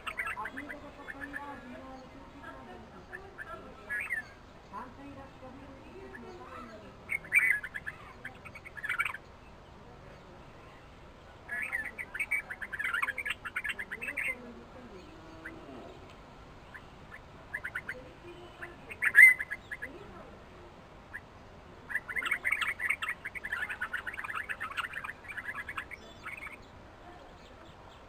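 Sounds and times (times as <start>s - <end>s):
bulbuls chattering calls: 0.0s - 28.0s.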